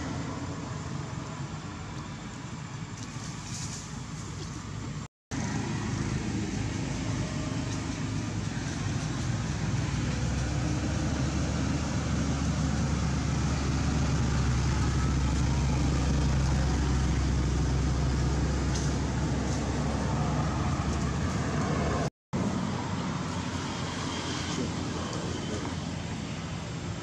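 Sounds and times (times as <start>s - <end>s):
low rumble with hiss: 0.0s - 27.0s.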